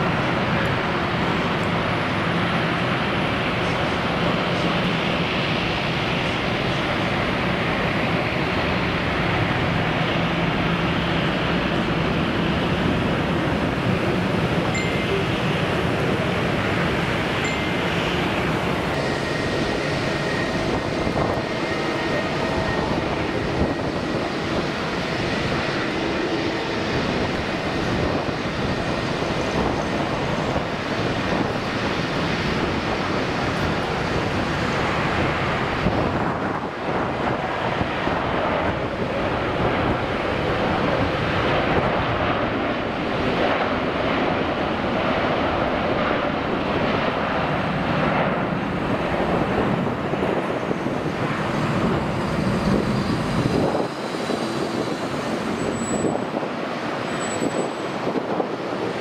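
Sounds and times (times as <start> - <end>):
jet engines rushing: 0.0 - 59.0
wind on microphone: 4.5 - 59.0.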